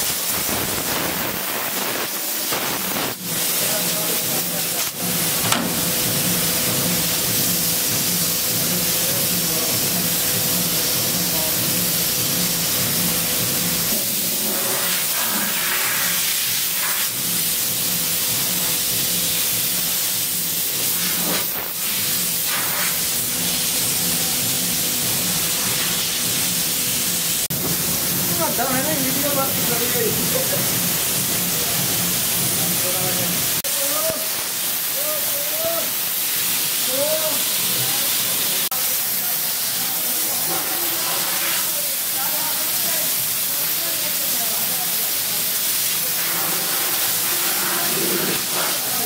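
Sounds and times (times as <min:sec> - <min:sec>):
compressed air hissing: 0:00.0 - 0:49.0.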